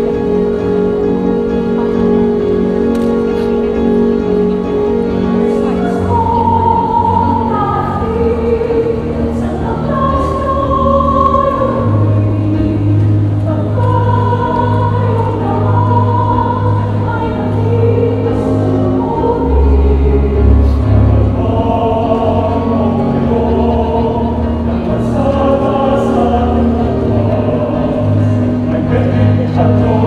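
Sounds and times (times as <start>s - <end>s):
instrumental accompaniment: 0.0s - 30.0s
choir singing a hymn: 4.4s - 30.0s.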